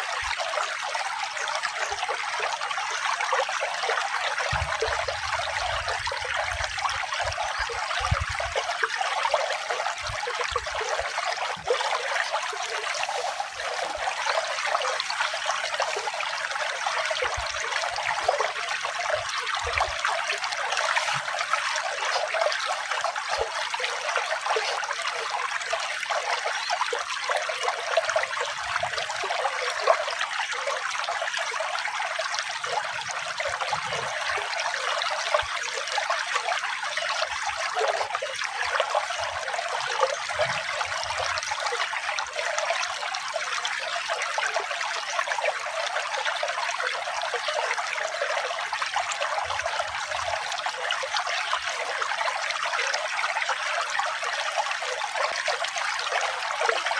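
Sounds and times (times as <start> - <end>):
running water trickling: 0.0 - 56.9.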